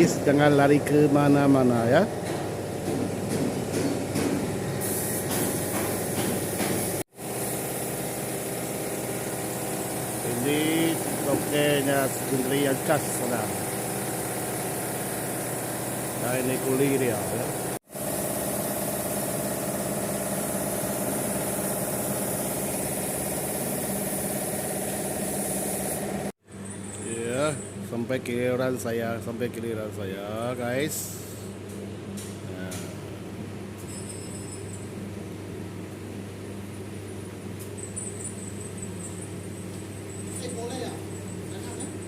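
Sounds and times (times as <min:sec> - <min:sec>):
workshop machine hum: 0:00.0 - 0:42.0.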